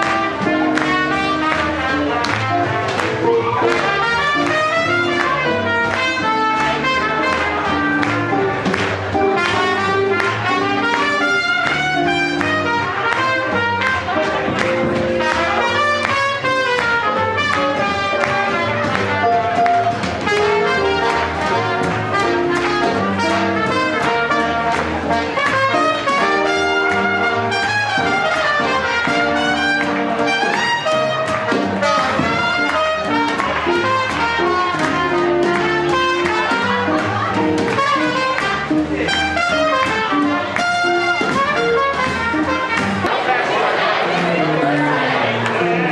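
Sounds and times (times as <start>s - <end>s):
swing jazz band playing: 0.0s - 45.9s
trumpet: 0.0s - 45.9s.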